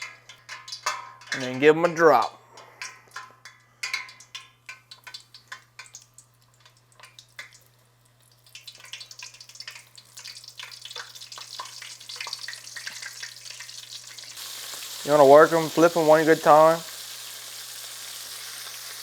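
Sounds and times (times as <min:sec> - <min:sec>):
meat frying in hot oil: 0:00.0 - 0:01.4, 0:02.8 - 0:19.0.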